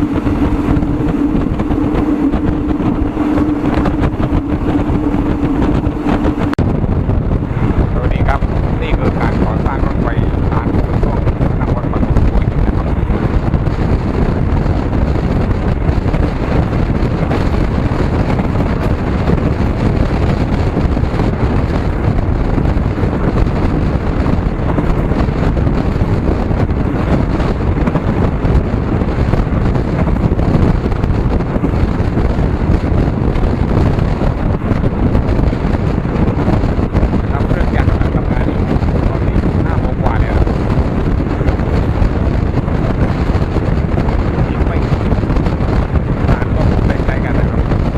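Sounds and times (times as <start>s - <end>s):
moving vehicle road noise: 0.0s - 47.9s
wind rumble on microphone: 0.0s - 47.9s.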